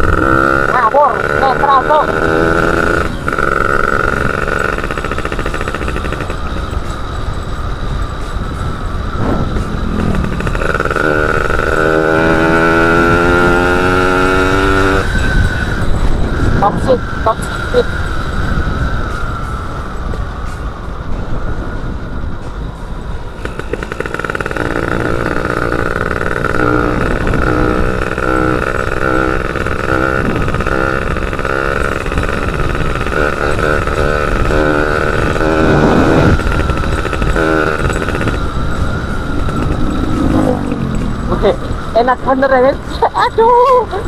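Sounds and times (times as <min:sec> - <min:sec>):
two-stroke motorcycle engine running: 0:00.0 - 0:20.5, 0:23.3 - 0:44.0
wind noise on microphone: 0:00.0 - 0:44.0.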